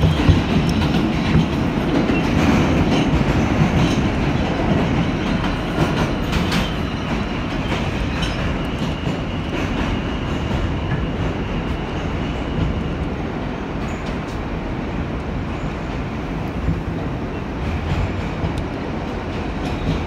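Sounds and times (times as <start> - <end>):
rail joint clicks: 0.0 - 20.0.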